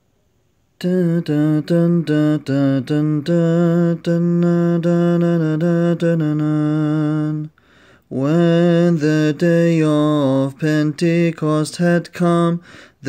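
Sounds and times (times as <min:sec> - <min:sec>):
man singing wordless hymn melody: 0:00.8 - 0:13.0.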